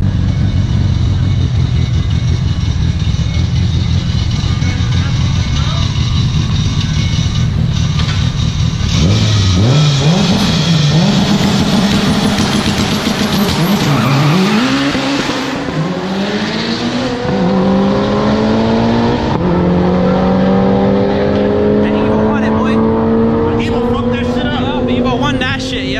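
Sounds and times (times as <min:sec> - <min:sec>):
road and wind rush: 0:00.0 - 0:25.9
sports car engine accelerating: 0:00.0 - 0:25.9.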